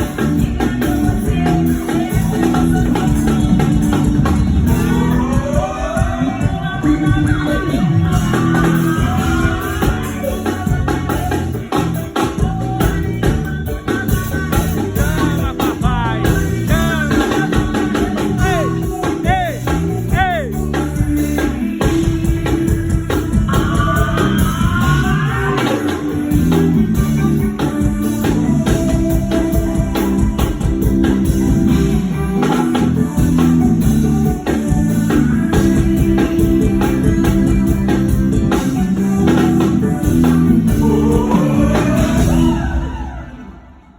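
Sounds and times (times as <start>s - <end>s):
live band music: 0.0s - 43.9s.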